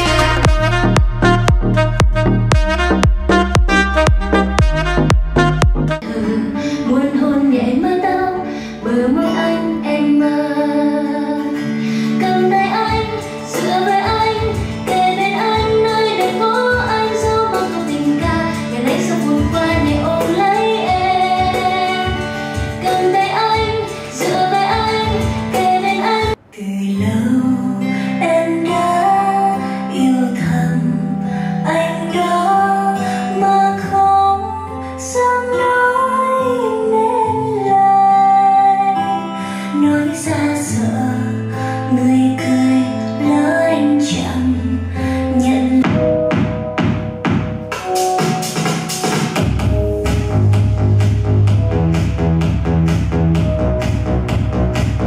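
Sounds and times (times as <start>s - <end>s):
pop song with female singer: 0.0s - 50.3s
guitar: 0.0s - 55.0s.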